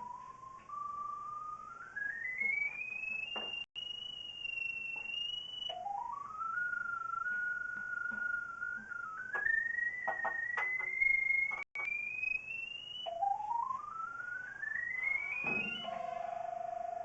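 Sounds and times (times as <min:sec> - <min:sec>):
stepping electronic tone: 0:00.0 - 0:17.0.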